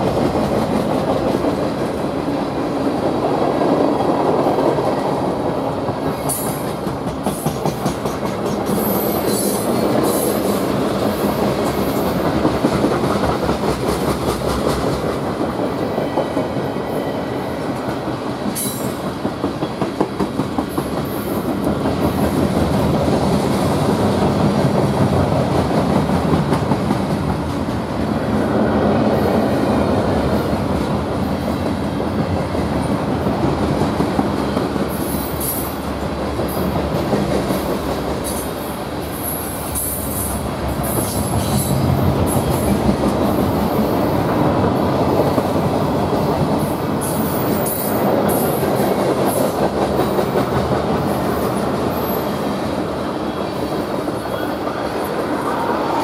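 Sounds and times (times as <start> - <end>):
train wheels clicking over rail joints: 0.0 - 16.8, 17.4 - 28.0, 29.9 - 55.0
freight train rumble: 0.0 - 56.0.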